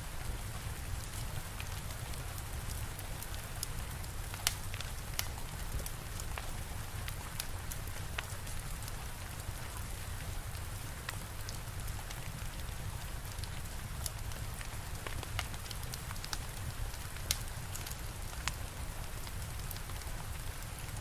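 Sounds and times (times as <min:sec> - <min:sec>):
steady rain falling: 0:00.0 - 0:21.0
wood fire crackling and popping: 0:00.4 - 0:21.0.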